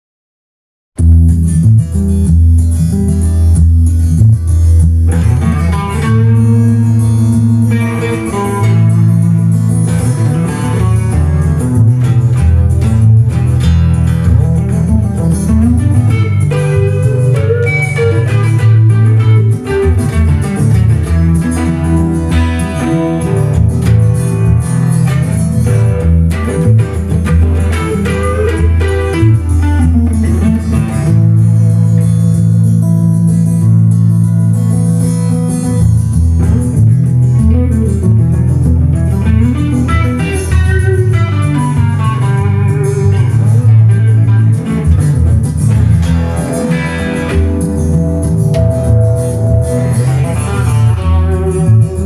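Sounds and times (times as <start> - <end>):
bass line: 1.0 - 52.0
electric guitar jazz melody: 1.0 - 52.0.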